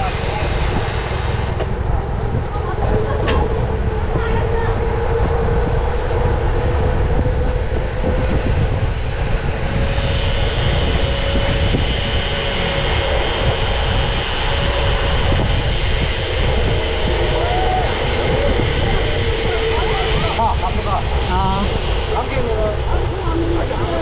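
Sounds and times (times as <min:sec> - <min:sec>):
steady hum: 0:00.0 - 0:24.0
wind rushing over microphone: 0:00.0 - 0:24.0.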